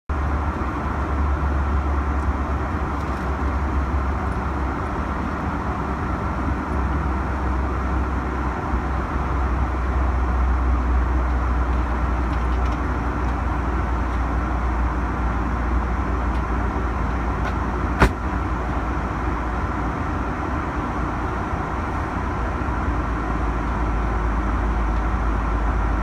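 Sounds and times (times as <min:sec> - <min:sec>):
airplane cabin engine drone: 0:00.1 - 0:26.0.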